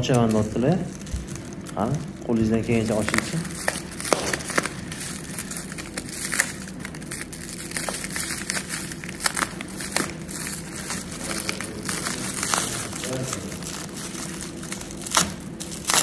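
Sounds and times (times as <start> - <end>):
bubble wrap crackling: 0.0 - 16.0
box cutter slitting wrapping: 2.9 - 16.0.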